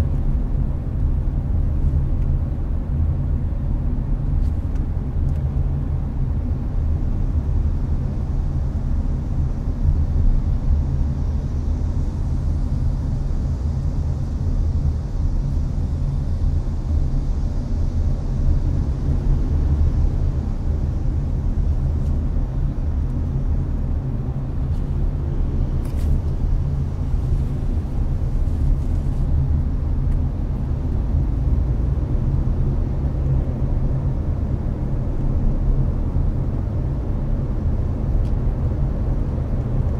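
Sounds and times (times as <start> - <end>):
air conditioner blowing: 0.0 - 39.9
road and engine rumble: 0.0 - 39.9.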